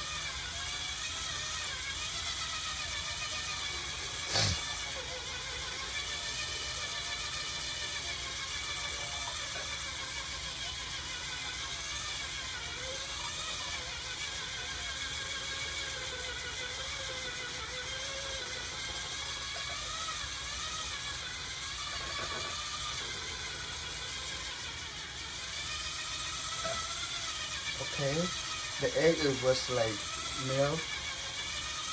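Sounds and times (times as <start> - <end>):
electric mixer motor hum: 0.0 - 31.9.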